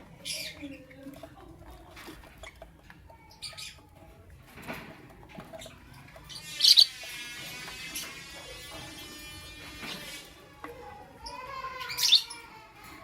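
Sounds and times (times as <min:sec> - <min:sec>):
lovebirds chirping: 0:00.0 - 0:12.8.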